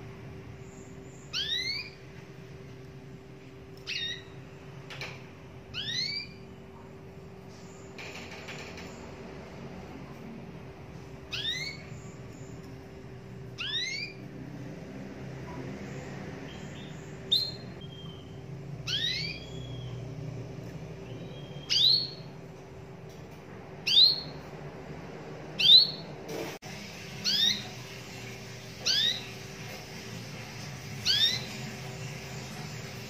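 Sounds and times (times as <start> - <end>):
canary chirps: 0.0 - 2.6, 3.7 - 22.6, 23.8 - 33.0
faint steady hum: 0.0 - 33.0.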